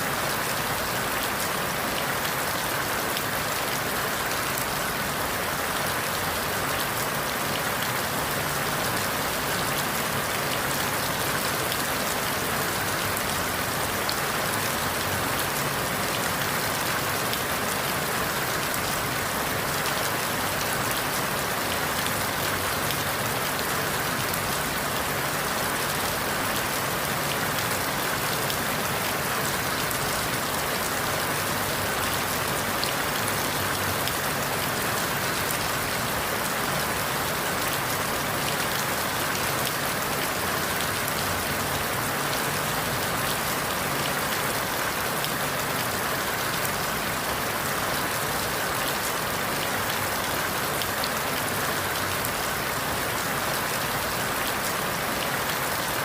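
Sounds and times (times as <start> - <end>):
rain falling through leaves: 0.0 - 56.0.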